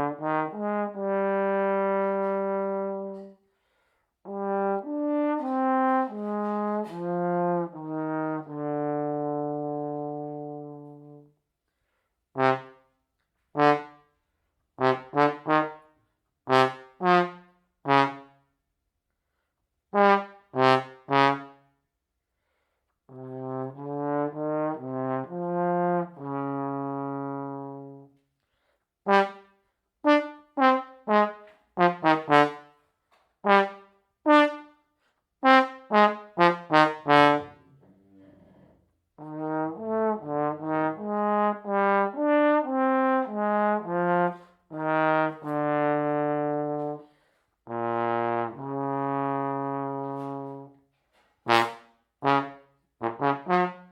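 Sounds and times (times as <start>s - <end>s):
trombone playing slow melody: 0.0s - 3.4s, 4.3s - 11.3s, 12.4s - 12.8s, 13.5s - 14.0s, 14.8s - 18.4s, 19.9s - 21.6s, 23.1s - 28.2s, 29.0s - 32.7s, 33.4s - 34.7s, 35.4s - 50.8s, 51.4s - 53.9s.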